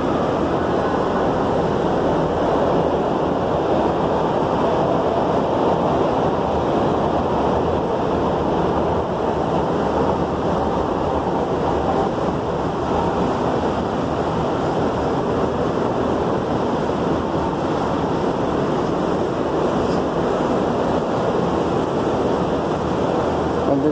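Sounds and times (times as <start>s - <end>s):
escalator and air handling drone: 0.0s - 23.9s.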